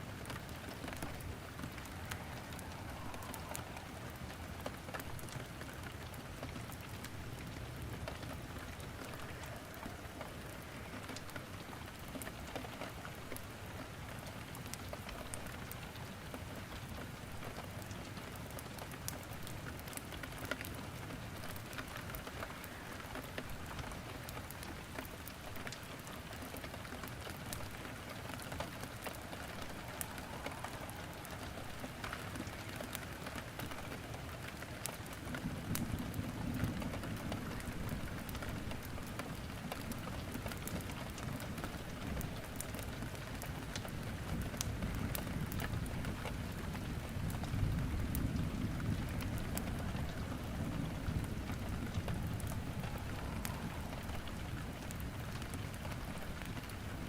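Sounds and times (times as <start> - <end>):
rain falling: 0.0 - 57.0
wood fire crackling: 0.0 - 57.0.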